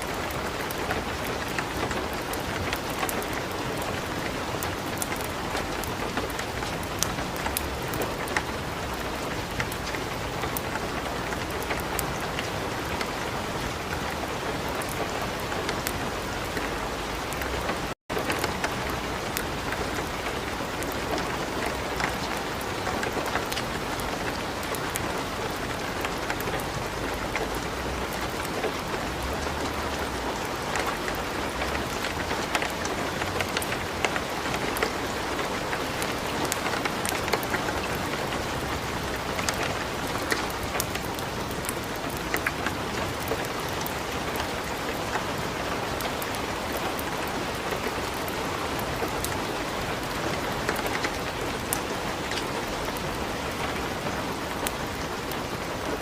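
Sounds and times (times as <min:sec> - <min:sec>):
wood fire crackling: 0:00.0 - 0:53.8
light rain pattering: 0:00.0 - 0:56.0.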